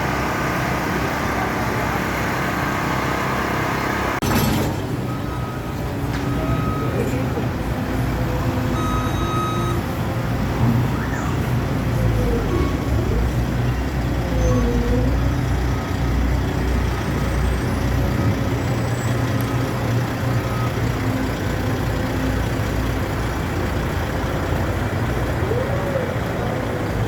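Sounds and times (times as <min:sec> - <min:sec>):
heavy traffic rumble: 0:00.0 - 0:27.0.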